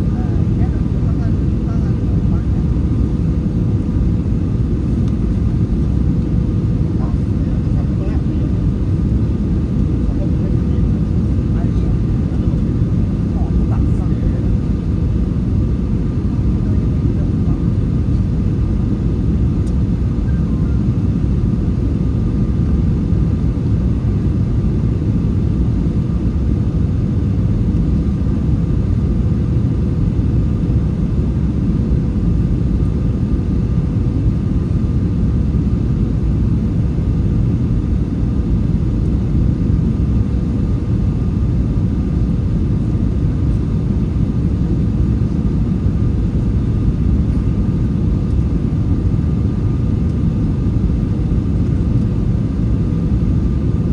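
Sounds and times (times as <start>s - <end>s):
airplane cabin engine rumble: 0.0s - 53.9s
faint steady hum: 0.0s - 53.9s.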